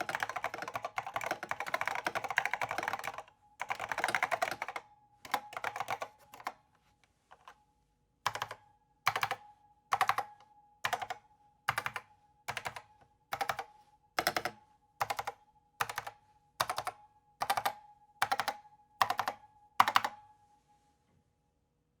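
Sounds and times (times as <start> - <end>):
keyboard keystrokes: 0.0 - 6.6, 8.3 - 20.2.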